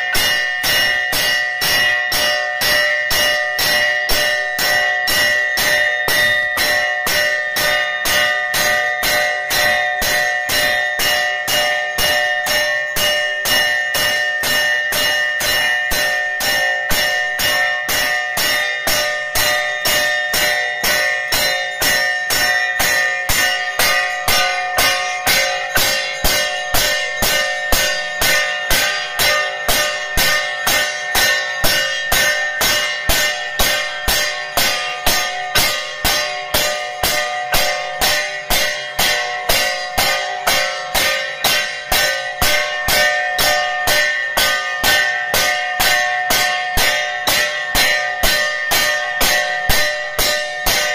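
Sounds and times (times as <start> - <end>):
bells ringing rapidly: 0.0 - 50.9.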